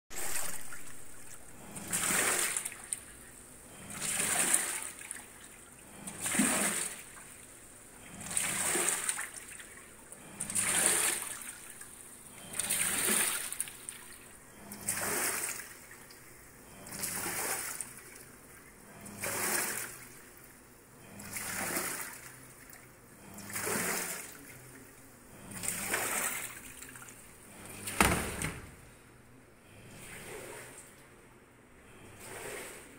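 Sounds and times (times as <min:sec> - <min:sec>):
washing machine washing: 0:00.1 - 0:32.9
water sloshing in drum: 0:00.1 - 0:32.9.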